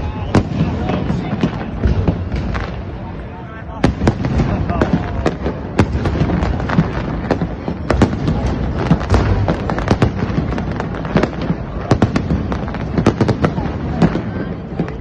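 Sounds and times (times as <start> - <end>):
fireworks cracks and bangs: 0.0 - 15.0
rumble of fireworks bursts: 0.0 - 15.0.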